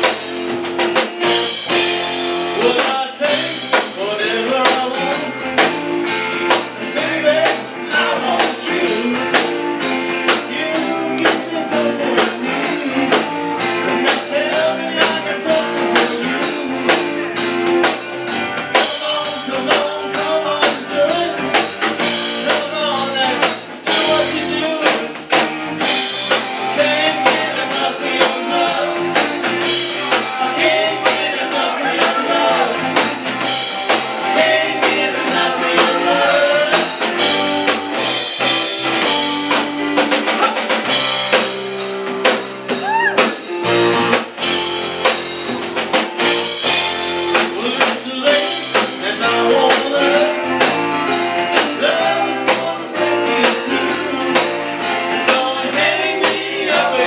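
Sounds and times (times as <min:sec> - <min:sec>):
drum kit beat: 0:00.0 - 0:57.0
live rock band playing: 0:00.0 - 0:57.0.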